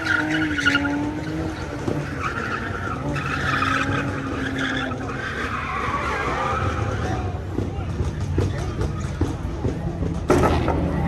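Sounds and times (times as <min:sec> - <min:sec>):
tires squealing in burnout: 0:00.0 - 0:10.0
engine at high revs: 0:00.0 - 0:11.0.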